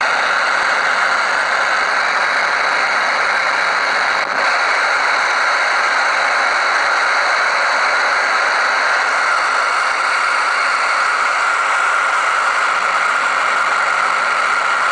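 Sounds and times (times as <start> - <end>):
radio receiver hiss: 0.0 - 14.9.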